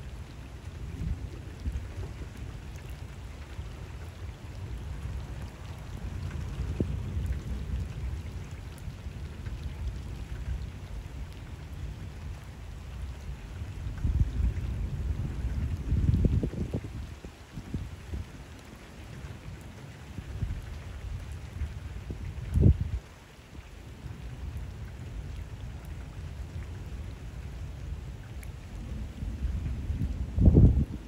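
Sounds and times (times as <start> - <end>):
close raindrops ticking: 0.0 - 31.0
rain falling on water: 0.0 - 31.0
thunder rumbling: 0.2 - 18.3, 24.0 - 31.0.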